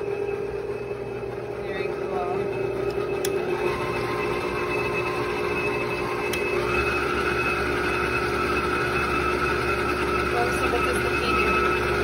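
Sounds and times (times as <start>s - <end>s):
higher whine: 0.0s - 12.0s
stand mixer motor humming: 0.0s - 12.0s.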